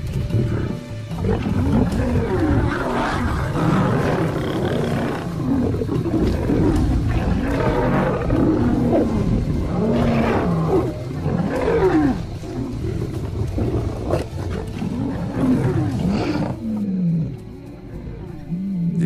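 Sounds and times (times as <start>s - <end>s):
lions growling and snarling: 0.0s - 19.0s.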